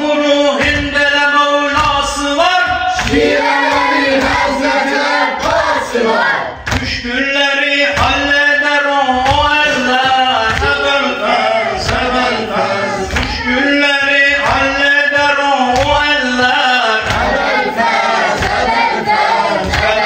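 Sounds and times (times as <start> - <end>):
low rhythmic thuds: 0.0 - 20.0
men chanting a lament: 0.0 - 20.0.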